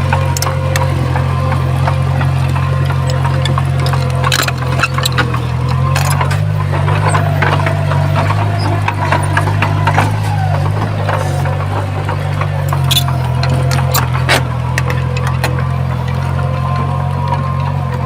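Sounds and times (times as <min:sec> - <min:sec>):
diesel engine running: 0:00.0 - 0:18.0
stone and soil clattering: 0:00.0 - 0:18.0.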